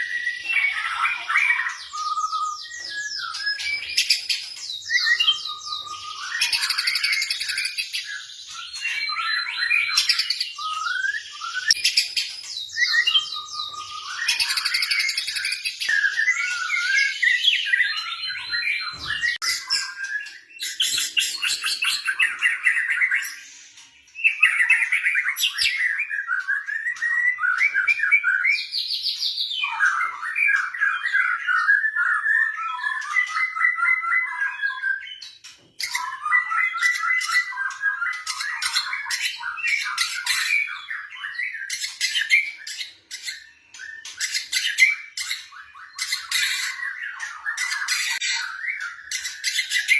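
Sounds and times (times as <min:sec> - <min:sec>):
bird singing warbled whistled song: 0:00.0 - 0:49.9.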